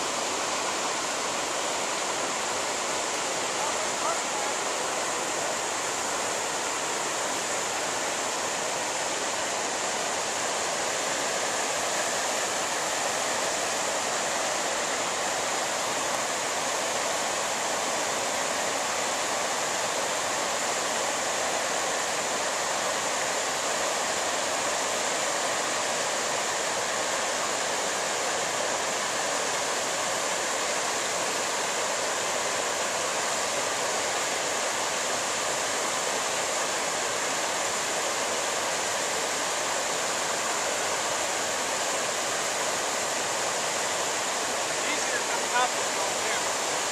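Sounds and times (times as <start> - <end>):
river rapids rushing: 0.0 - 46.9.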